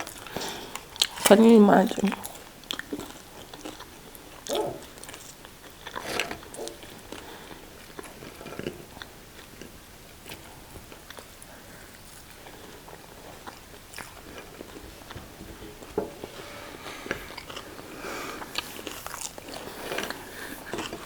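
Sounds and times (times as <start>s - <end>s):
biting and chewing food: 0.0s - 21.0s.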